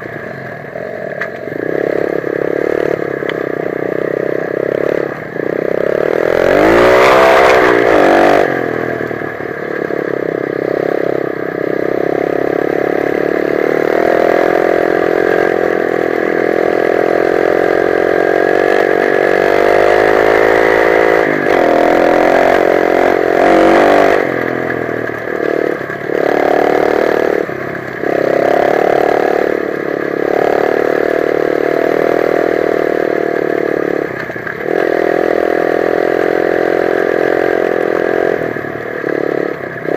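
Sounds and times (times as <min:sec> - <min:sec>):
dirt bike engine revving: 0:00.8 - 0:39.9.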